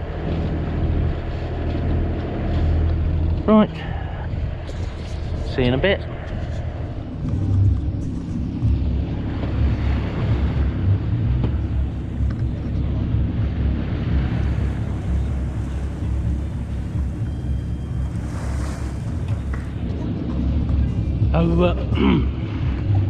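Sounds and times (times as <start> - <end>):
low engine rumble: 0.0 - 23.0
water swishing along hull: 0.0 - 23.0
wind on microphone: 0.0 - 23.0.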